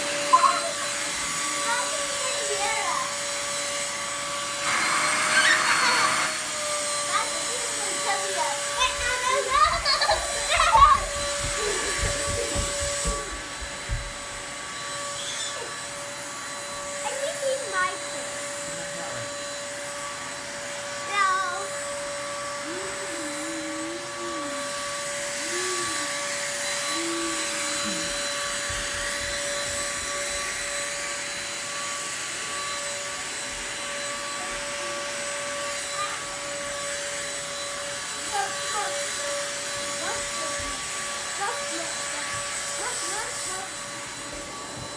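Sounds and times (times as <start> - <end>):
handheld vacuum whining: 0.0 - 44.9.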